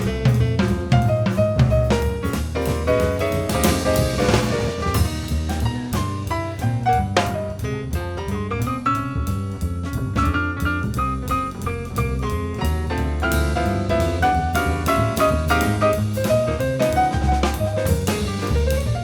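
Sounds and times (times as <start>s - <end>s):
jazz drum kit: 0.0s - 19.0s
jazz piano: 0.0s - 19.0s.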